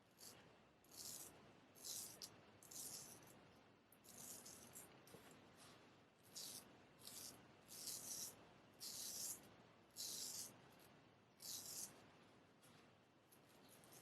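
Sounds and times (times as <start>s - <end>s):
razor scraping through stubble: 0.1s - 3.4s, 4.0s - 10.8s, 11.4s - 12.0s, 12.7s - 14.0s.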